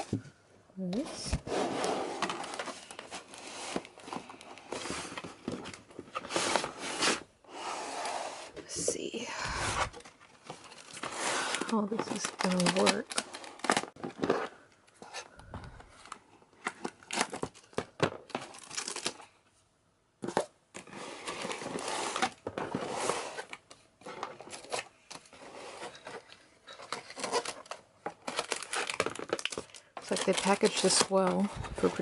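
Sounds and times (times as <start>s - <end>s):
paper and plastic tearing and crinkling: 0.9s - 7.3s, 9.1s - 14.6s, 15.9s - 19.4s, 20.2s - 32.0s.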